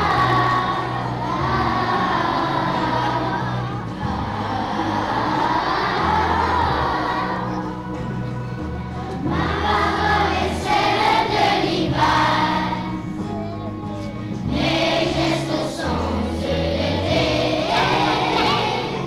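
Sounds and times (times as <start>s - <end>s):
children singing: 0.0s - 19.0s
instrumental accompaniment with bass: 0.0s - 19.0s.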